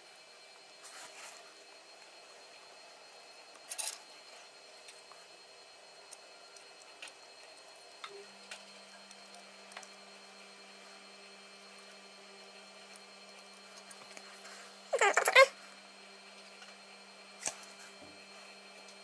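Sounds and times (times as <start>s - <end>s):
low steady hum: 0.0s - 18.4s.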